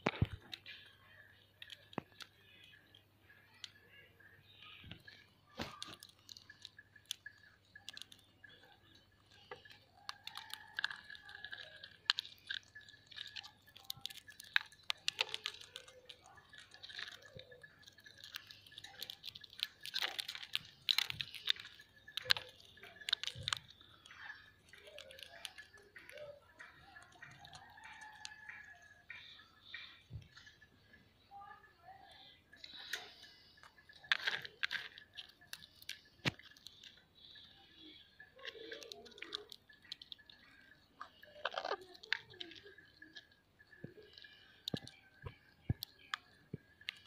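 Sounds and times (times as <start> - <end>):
parakeets crunching chickpeas: 0.0 - 47.0.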